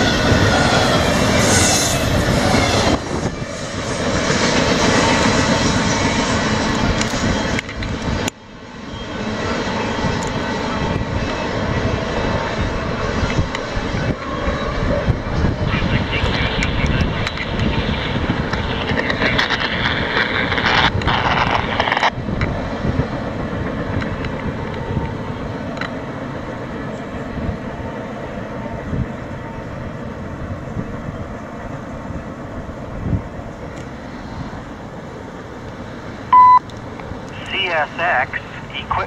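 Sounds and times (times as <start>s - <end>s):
freight train rumbling on rails: 0.0s - 39.0s.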